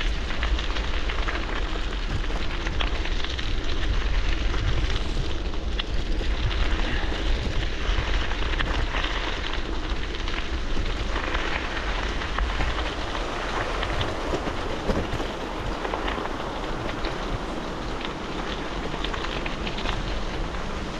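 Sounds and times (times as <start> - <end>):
bicycle tyres crunching gravel: 0.0 - 20.9
wind on microphone: 0.0 - 20.9.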